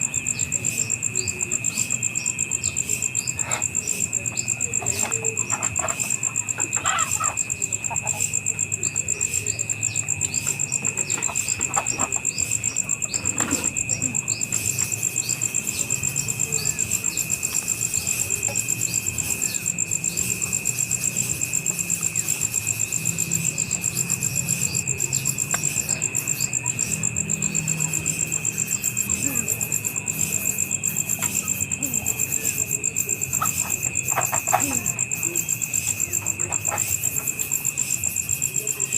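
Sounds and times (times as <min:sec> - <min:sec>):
insects trilling: 0:00.0 - 0:38.9
steady low insect tone: 0:00.0 - 0:38.9.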